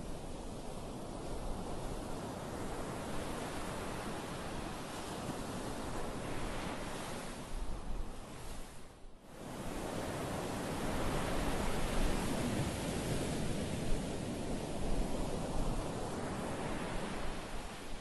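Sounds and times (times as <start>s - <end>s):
waves breaking on a beach: 0.0s - 18.0s.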